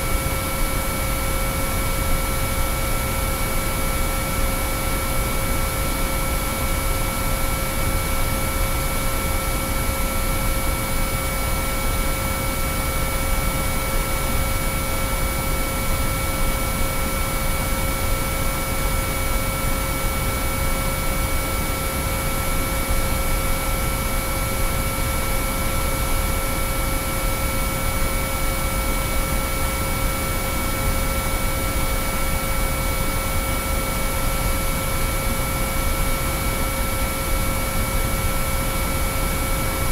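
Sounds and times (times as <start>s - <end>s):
steady pure sine tones: 0.0s - 39.9s.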